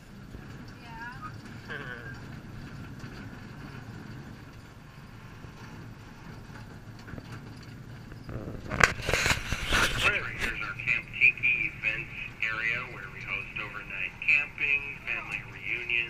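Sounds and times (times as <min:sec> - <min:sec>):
small train rumbling on track: 0:00.0 - 0:16.0.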